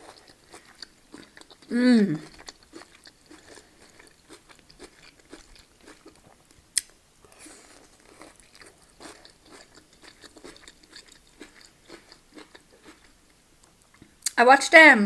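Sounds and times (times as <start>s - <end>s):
close chewing: 0.0s - 14.0s.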